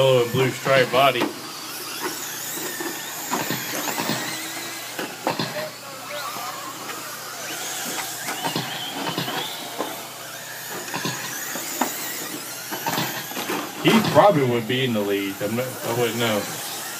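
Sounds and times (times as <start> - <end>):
rc truck motors whining: 0.0 - 16.9.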